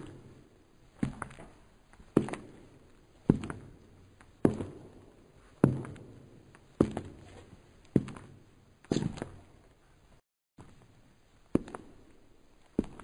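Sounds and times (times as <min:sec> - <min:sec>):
footsteps on hard surface: 0:00.0 - 0:09.8, 0:11.5 - 0:13.0.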